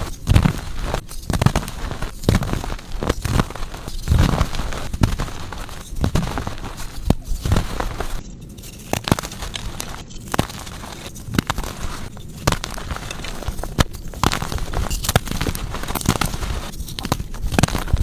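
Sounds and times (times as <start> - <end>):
chalk being crushed: 0.0 - 18.0.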